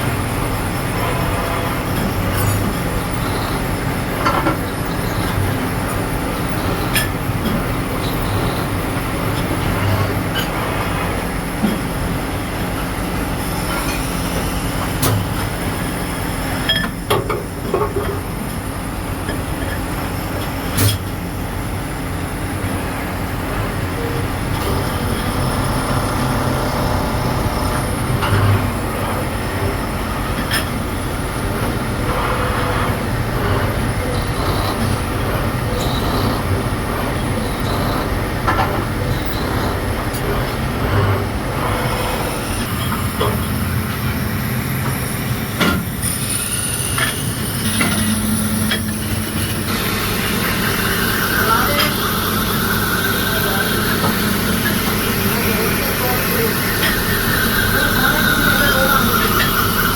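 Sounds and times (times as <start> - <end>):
metalworking machinery running: 0.0 - 59.9.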